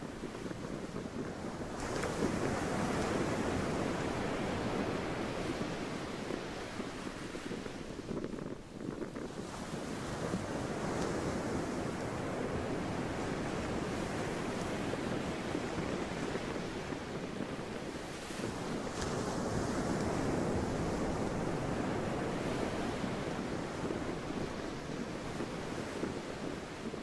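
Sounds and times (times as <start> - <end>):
sea waves washing: 0.0 - 27.0
wind: 0.0 - 27.0.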